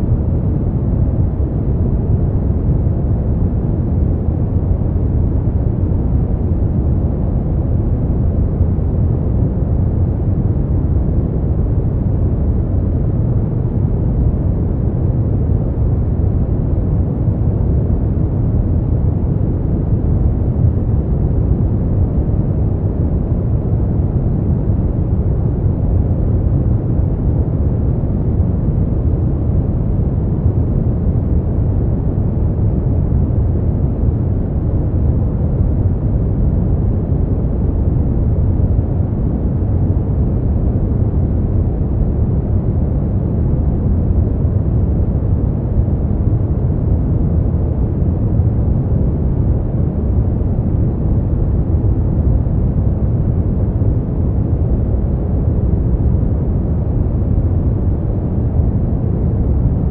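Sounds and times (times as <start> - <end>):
deep rumbling brown noise: 0.0 - 59.9.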